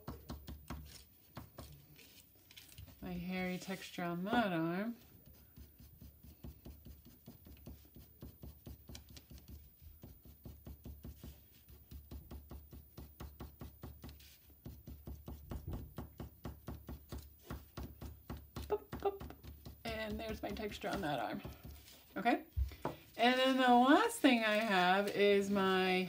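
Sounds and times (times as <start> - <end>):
pencil scratching on paper: 0.1 - 22.4.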